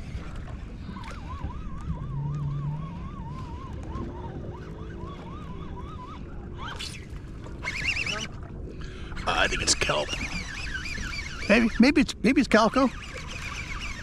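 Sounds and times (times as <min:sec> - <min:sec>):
siren-like warbling tone: 0:00.8 - 0:08.5, 0:09.3 - 0:12.0, 0:12.7 - 0:14.0.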